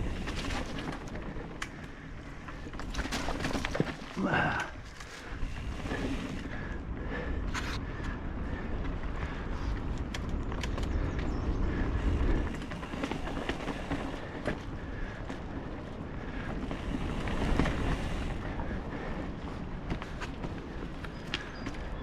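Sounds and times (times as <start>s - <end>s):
bike chain and frame rattling: 0.0s - 6.8s, 8.8s - 22.0s
bike tyres on dirt: 0.0s - 22.0s
wind rumble on microphone: 0.0s - 22.0s.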